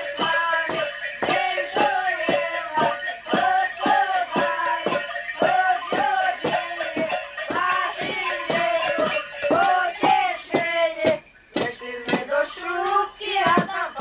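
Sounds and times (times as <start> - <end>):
children singing a carol: 0.0 - 14.0
staffs knocking on floor: 0.2 - 12.3, 13.4 - 13.8.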